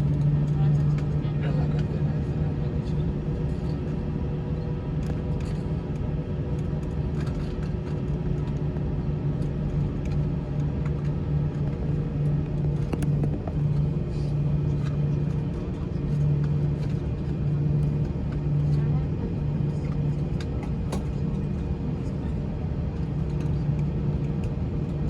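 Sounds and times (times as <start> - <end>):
low aircraft cabin drone: 0.0 - 25.0.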